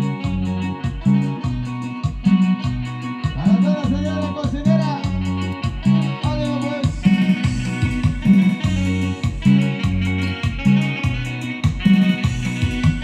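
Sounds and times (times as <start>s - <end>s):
latin dance music: 0.0s - 13.0s
wavering lead melody: 0.0s - 13.0s.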